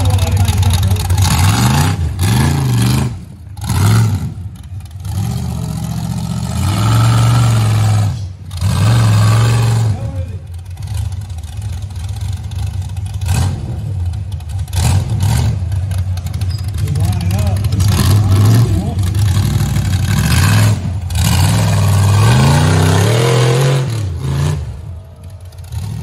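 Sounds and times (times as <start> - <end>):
buggy engine revving hard: 0.0 - 26.0.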